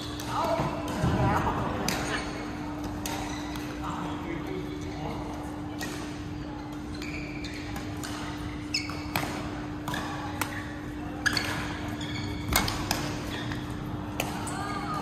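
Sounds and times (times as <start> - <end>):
shoes squeaking on court floor: 1.8 - 3.9, 4.8 - 15.0.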